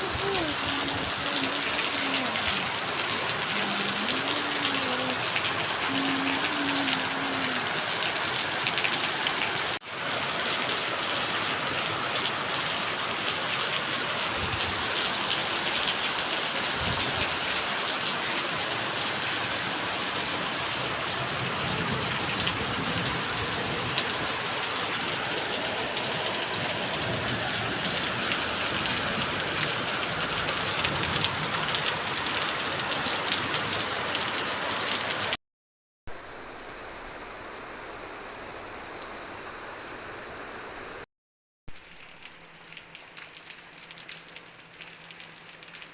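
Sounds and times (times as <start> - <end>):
rain on a hard surface: 0.0 - 35.4, 36.1 - 41.1, 41.7 - 45.9.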